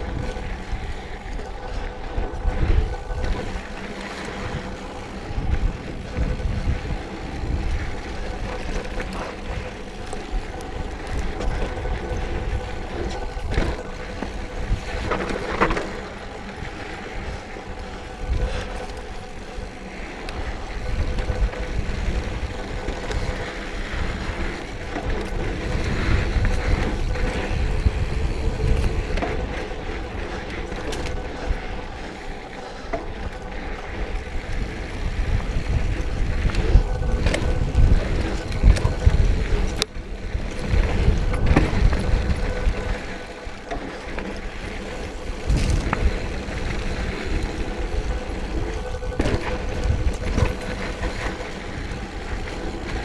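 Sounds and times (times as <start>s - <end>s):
bike rattling and knocking: 0.0s - 53.0s
tyres on dirt: 0.0s - 53.0s
wind rumbling on microphone: 0.0s - 53.0s.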